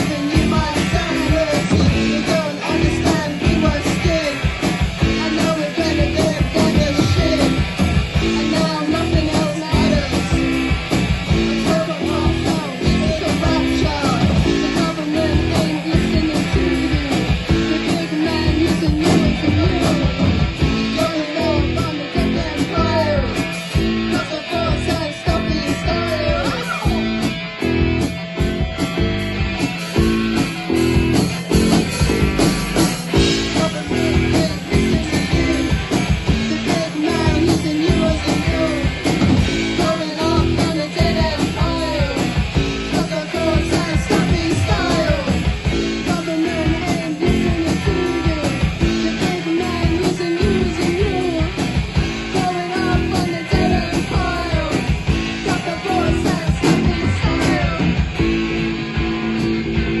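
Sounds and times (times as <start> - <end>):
rock music with guitars: 0.0 - 60.0.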